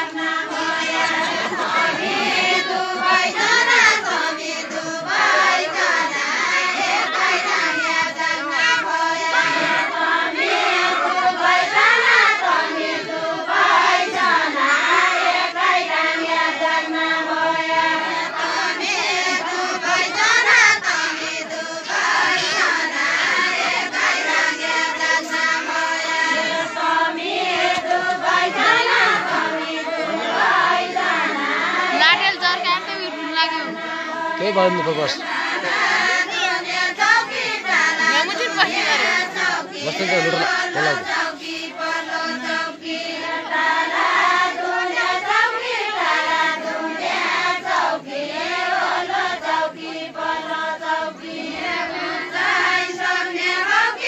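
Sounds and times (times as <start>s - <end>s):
crowd chatter: 0.0s - 54.0s
group singing folk song: 0.0s - 54.0s.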